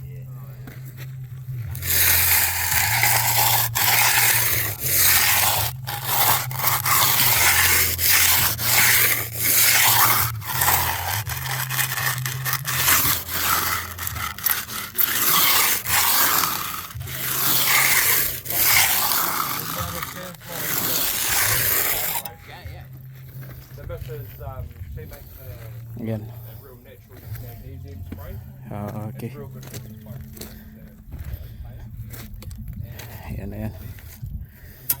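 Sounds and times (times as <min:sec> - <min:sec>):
hand tool scraping concrete: 0:00.0 - 0:31.6, 0:33.0 - 0:35.0.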